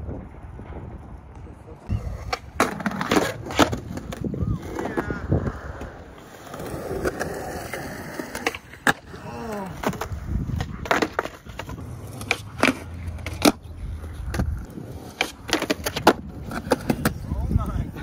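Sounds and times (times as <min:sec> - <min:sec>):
skateboard wheels rolling on concrete: 0:00.0 - 0:18.0.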